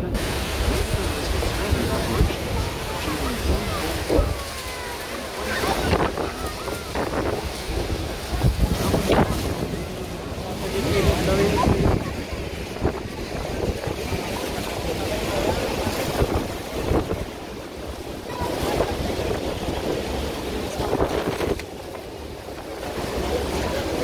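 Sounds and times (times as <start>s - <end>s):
churning water: 0.0s - 24.0s
waterfall rushing: 0.0s - 24.0s
wind buffeting microphone: 0.0s - 24.0s.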